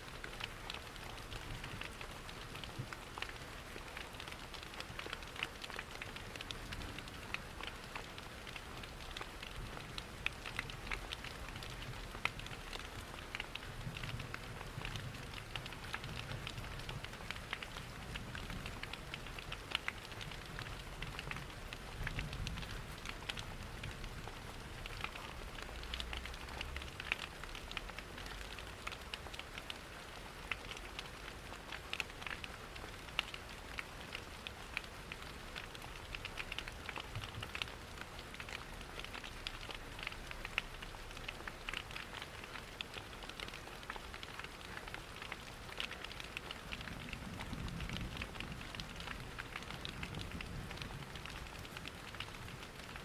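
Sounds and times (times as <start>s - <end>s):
rain pattering: 0.0s - 53.0s
wood fire crackling: 0.3s - 53.0s.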